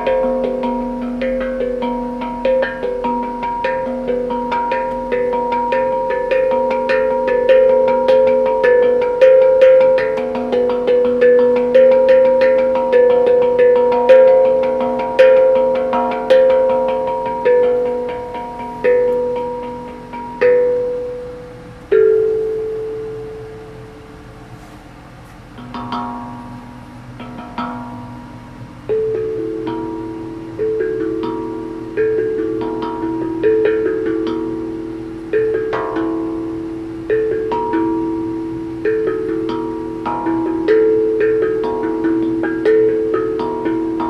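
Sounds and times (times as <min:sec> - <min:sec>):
pitched percussion ringing notes: 0:00.0 - 0:44.0.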